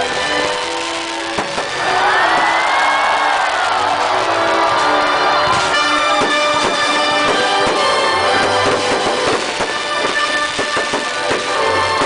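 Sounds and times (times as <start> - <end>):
fireworks cracking: 0.0 - 12.0
loud music with brass: 0.0 - 12.0.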